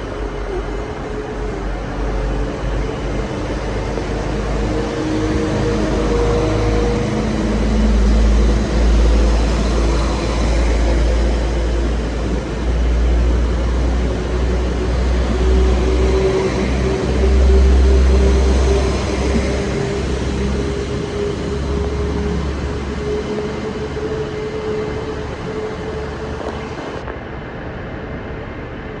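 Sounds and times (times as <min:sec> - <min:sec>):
humming tones shifting in pitch: 0:00.0 - 0:27.0
train rumbling: 0:00.0 - 0:29.0.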